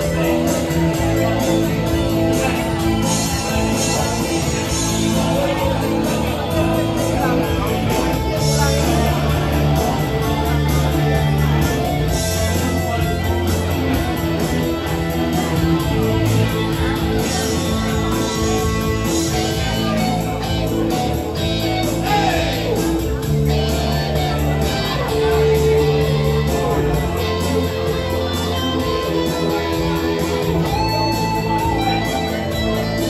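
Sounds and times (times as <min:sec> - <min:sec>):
electric guitar through amplifier: 0:00.0 - 0:33.0
low bass notes: 0:00.0 - 0:33.0.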